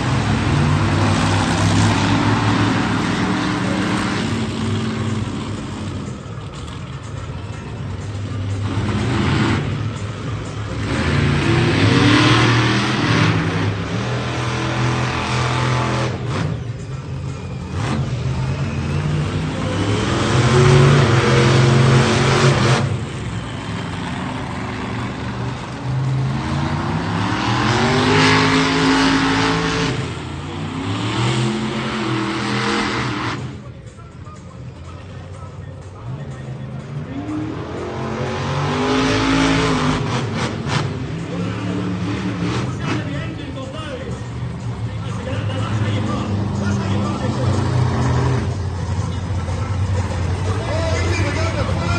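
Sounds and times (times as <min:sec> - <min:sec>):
truck engine revving: 0:00.0 - 0:33.8, 0:35.9 - 0:51.9.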